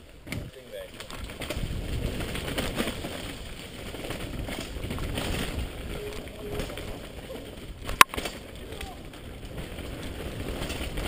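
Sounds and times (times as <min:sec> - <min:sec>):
bike rattling over bumps: 0:00.0 - 0:11.0
tyres rolling over rough ground: 0:00.0 - 0:11.0
wind rumbling on microphone: 0:00.0 - 0:11.0.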